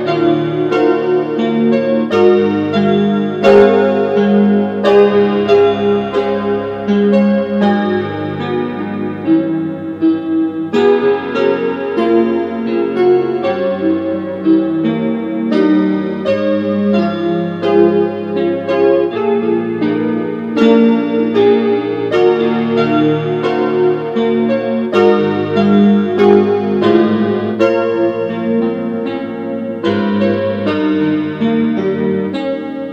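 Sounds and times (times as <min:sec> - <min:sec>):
solo piano music: 0:00.0 - 0:32.9.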